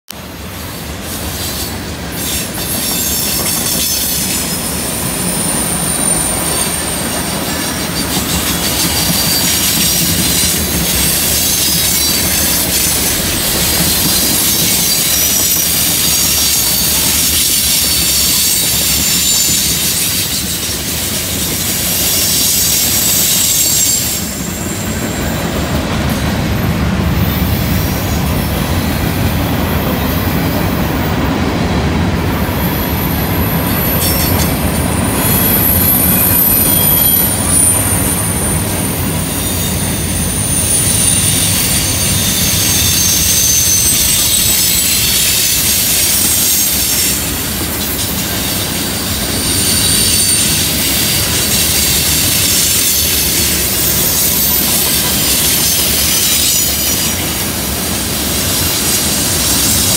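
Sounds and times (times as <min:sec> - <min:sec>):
freight train wheels rumbling: 0:00.1 - 0:59.9
high-pitched wheel squeal: 0:01.2 - 0:31.0, 0:32.6 - 0:59.9.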